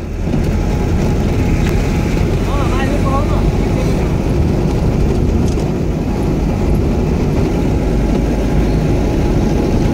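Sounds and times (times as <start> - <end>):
vehicle engine and road noise: 0.0 - 9.9.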